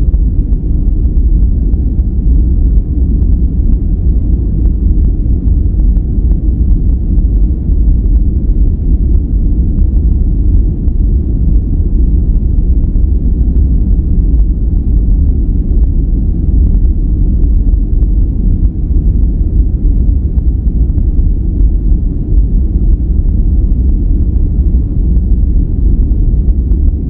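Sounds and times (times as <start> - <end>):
deep dark noise hiss-rumble: 0.0 - 27.0.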